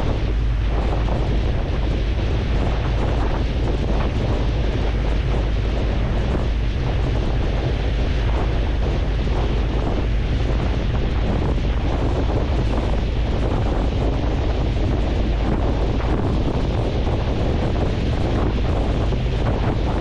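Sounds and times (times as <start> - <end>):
sea water rushing: 0.0 - 20.0
wind buffeting microphone: 0.0 - 20.0.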